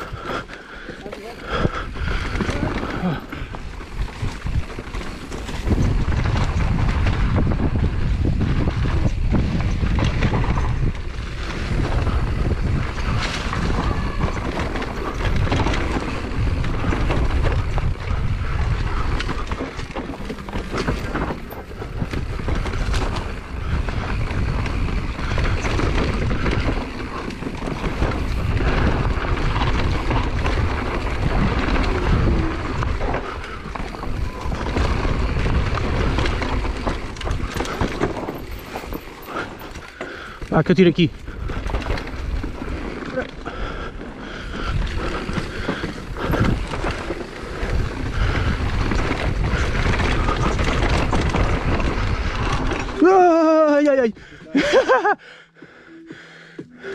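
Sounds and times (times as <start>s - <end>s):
bike rattling clicks and knocks: 0.0s - 55.2s
tyres rumbling over dirt and rocks: 0.0s - 55.2s
wind buffeting microphone: 0.0s - 55.2s.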